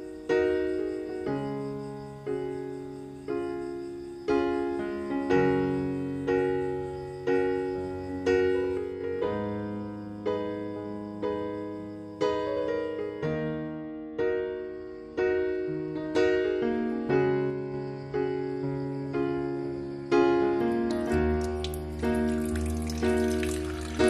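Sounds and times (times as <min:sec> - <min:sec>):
gentle piano chords: 0:00.0 - 0:24.0.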